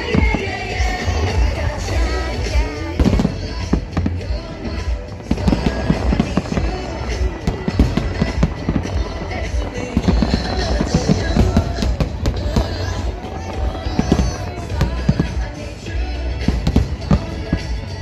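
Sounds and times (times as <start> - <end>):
fireworks exploding: 0.0 - 18.0
music playing: 0.0 - 18.0.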